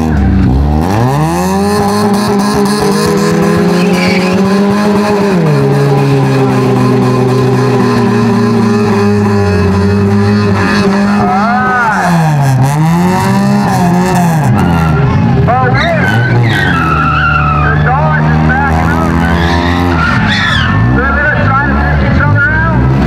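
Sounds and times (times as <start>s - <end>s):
car engines running hard: 0.0s - 23.0s.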